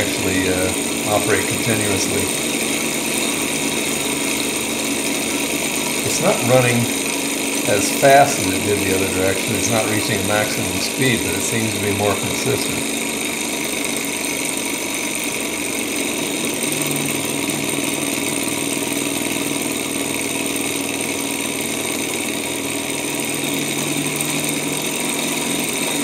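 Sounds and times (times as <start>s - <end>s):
stirling engine mechanical whir: 0.0s - 26.0s.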